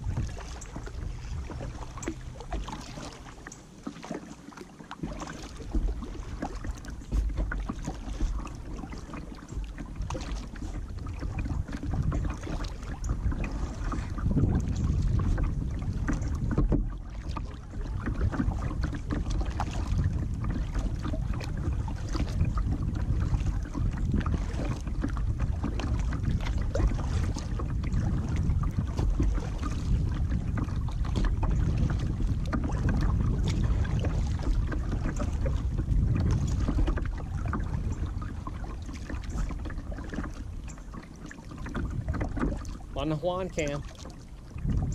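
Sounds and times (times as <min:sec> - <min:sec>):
wind rumble on microphone: 0:00.0 - 0:04.2, 0:05.0 - 0:44.9
small water splashes: 0:00.0 - 0:44.9.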